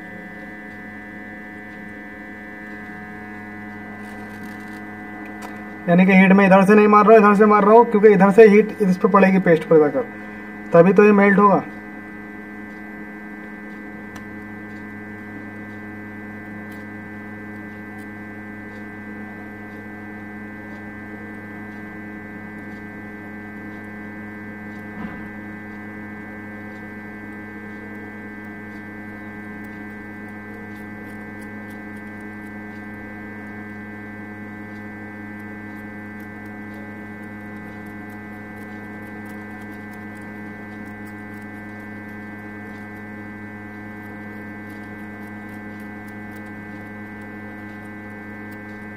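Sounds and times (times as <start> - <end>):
hot air station humming: 0.0 - 48.9.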